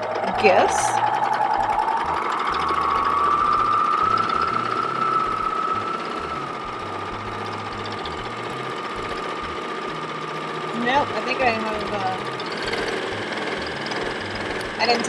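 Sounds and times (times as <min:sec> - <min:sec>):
serger motor whine: 0:00.0 - 0:15.0.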